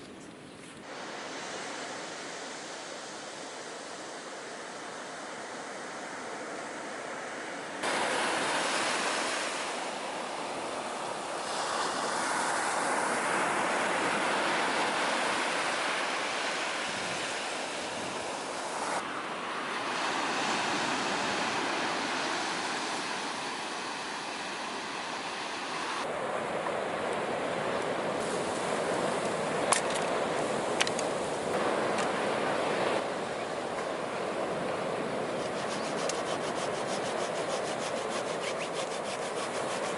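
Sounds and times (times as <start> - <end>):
ocean surf breaking: 0.8 - 39.9.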